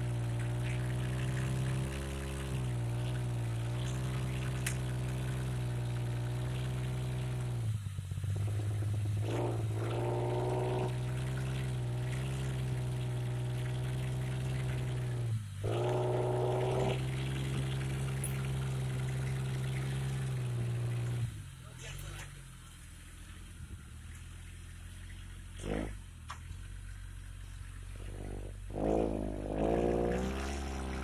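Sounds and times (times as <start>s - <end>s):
car engine running under load: 0.0s - 31.0s.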